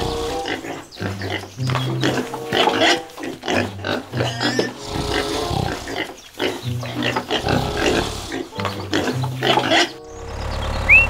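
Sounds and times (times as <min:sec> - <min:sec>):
pigs grunting and oinking: 0:00.0 - 0:10.1
background music with bass line: 0:00.0 - 0:11.0.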